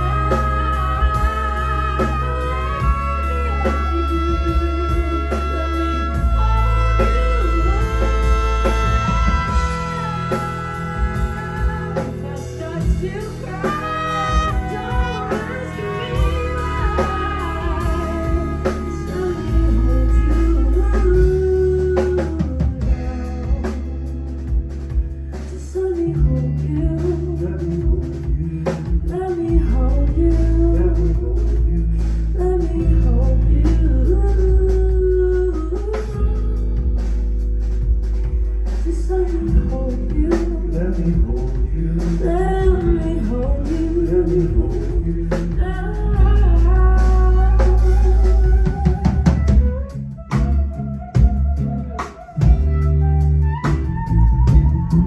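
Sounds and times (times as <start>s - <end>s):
person singing with band: 0.0s - 37.1s, 38.6s - 55.0s
held low bass notes: 0.0s - 55.0s.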